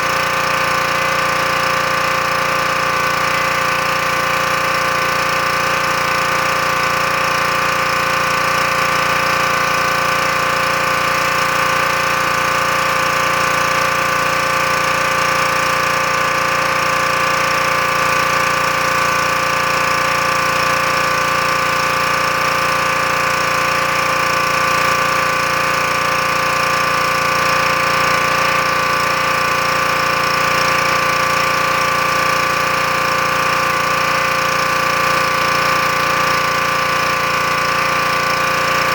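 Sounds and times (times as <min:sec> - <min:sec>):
pressure washer engine running: 0:00.0 - 0:38.9
water spraying on asphalt: 0:00.0 - 0:38.9.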